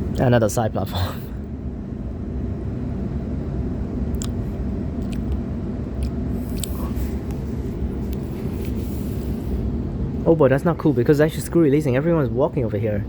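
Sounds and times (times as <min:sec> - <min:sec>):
electric train rumbling: 0:01.5 - 0:13.0.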